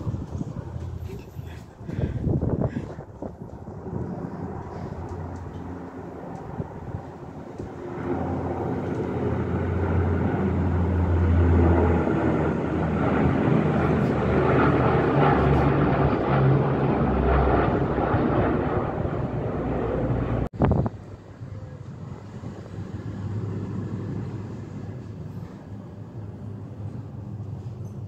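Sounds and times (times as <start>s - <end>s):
turboprop aircraft drone: 0.0s - 28.0s.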